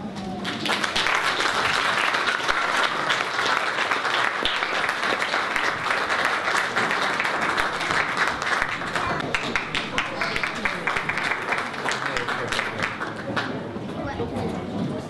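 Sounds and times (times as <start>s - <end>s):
audience applauding: 0.4s - 13.7s.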